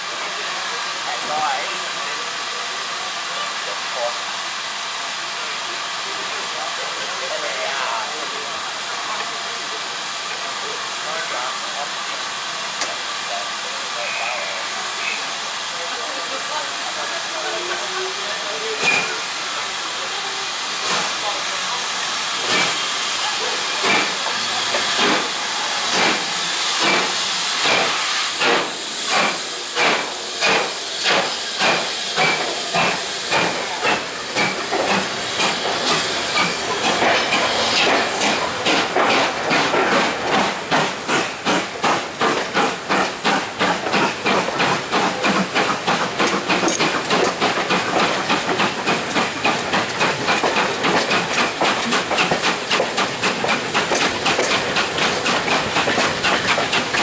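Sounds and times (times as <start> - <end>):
steam hissing: 0.0 - 57.0
steam locomotive chuffing: 0.0 - 57.0.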